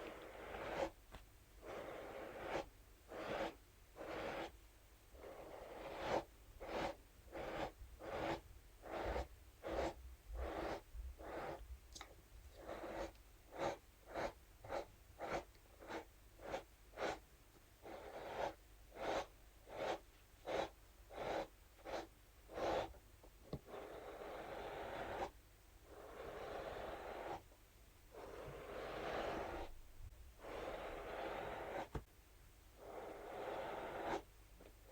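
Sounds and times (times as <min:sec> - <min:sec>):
brush scratching a surface: 0:00.0 - 0:04.6, 0:05.2 - 0:11.6, 0:12.5 - 0:17.2, 0:17.8 - 0:27.5, 0:28.1 - 0:29.8, 0:30.4 - 0:32.1, 0:32.8 - 0:34.3.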